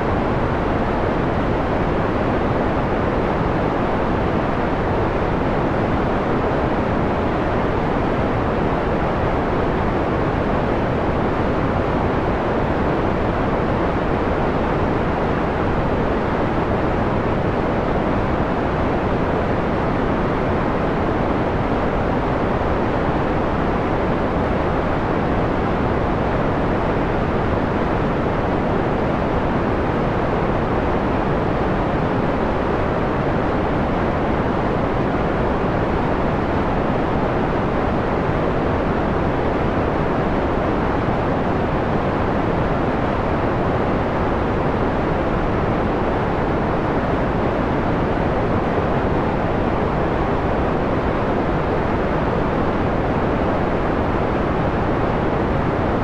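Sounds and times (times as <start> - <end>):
filtered white noise hiss: 0.0 - 56.0.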